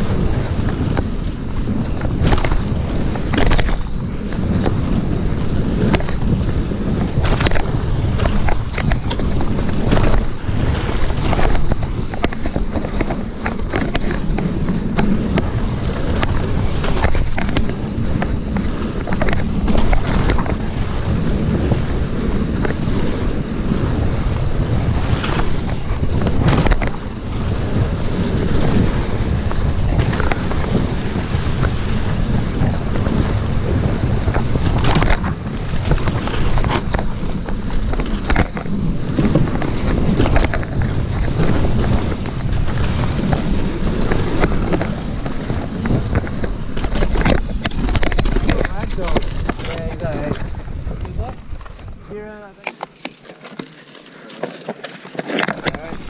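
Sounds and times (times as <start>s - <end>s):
wind buffeting microphone: 0.0s - 53.1s, 55.2s - 56.0s
bike clattering on rough trail: 0.0s - 56.0s.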